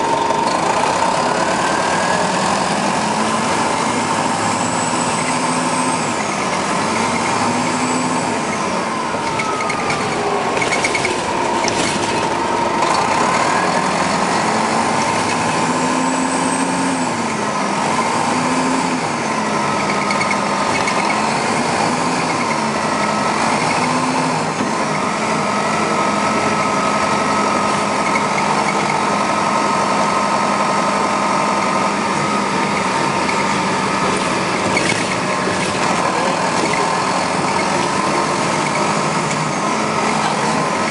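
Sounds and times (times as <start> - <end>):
bus diesel engine: 0.0 - 40.9.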